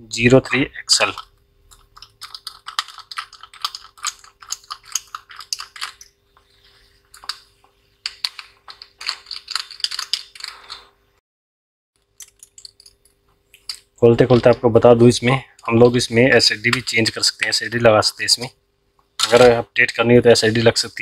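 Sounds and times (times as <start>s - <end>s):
faint steady hum: 0.0s - 11.2s, 12.0s - 21.0s.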